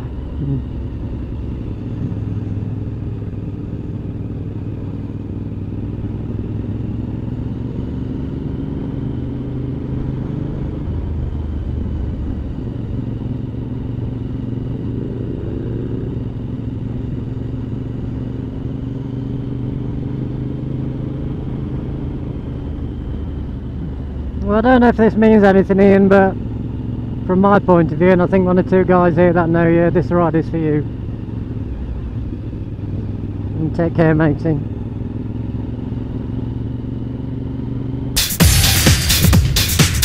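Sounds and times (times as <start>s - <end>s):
wind and road noise: 0.0s - 38.7s
motorcycle engine running: 0.0s - 40.0s.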